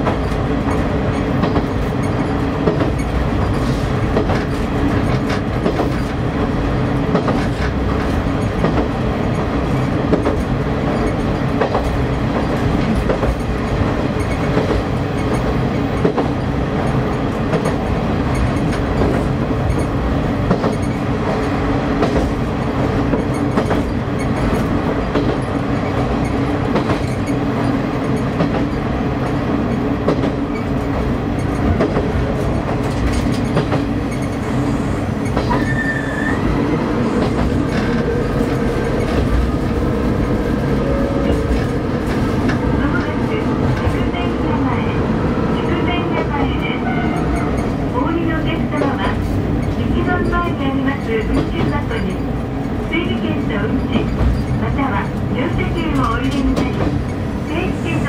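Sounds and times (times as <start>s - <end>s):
wheels rumbling on rails: 0.0s - 58.0s.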